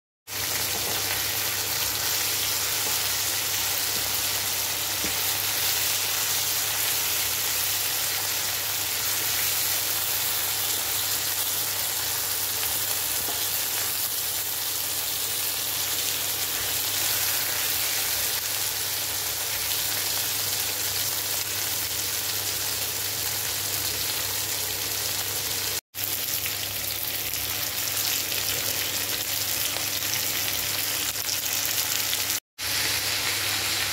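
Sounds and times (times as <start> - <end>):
food sizzling in a pan: 0.3 - 33.9.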